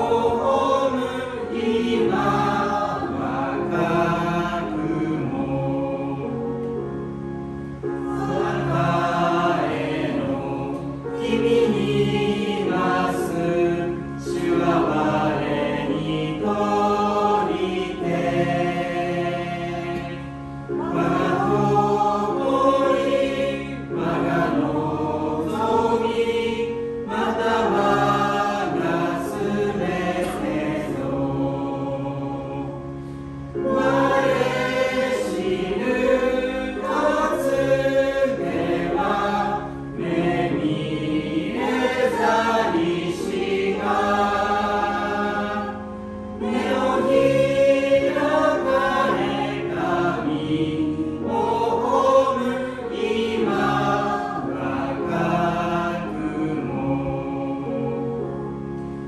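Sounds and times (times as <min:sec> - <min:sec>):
group singing a hymn: 0:00.0 - 0:59.0
instrumental accompaniment: 0:00.0 - 0:59.0.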